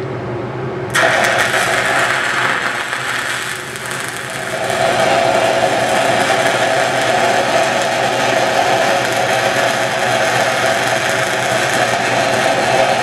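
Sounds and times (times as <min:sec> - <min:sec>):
welding arc crackling hiss: 0:00.9 - 0:13.0.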